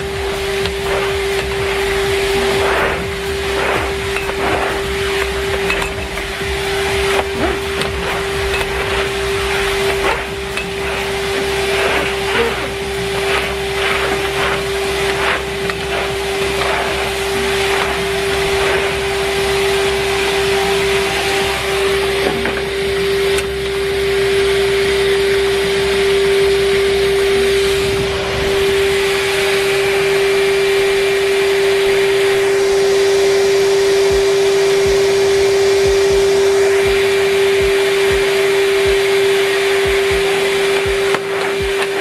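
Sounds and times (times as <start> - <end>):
vacuum cleaner running: 0.0 - 42.0.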